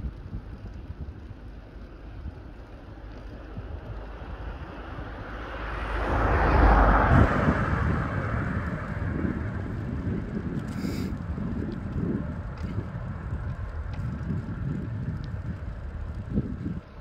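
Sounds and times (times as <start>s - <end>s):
wind rumble on microphone: 0.0s - 17.0s
car passing: 2.8s - 17.0s.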